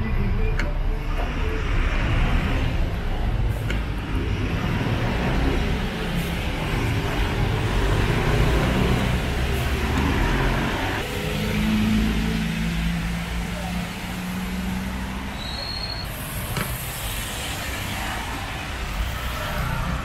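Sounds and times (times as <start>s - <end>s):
car engines running: 0.5s - 20.0s
tyres rushing on wet asphalt: 1.1s - 20.0s.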